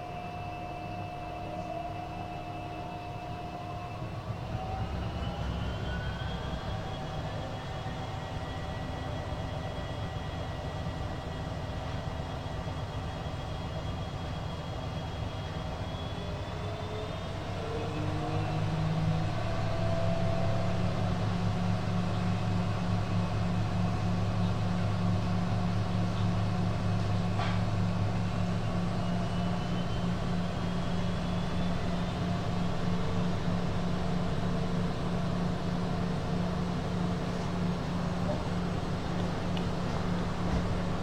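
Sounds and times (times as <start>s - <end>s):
washing machine motor drone: 0.0s - 41.0s.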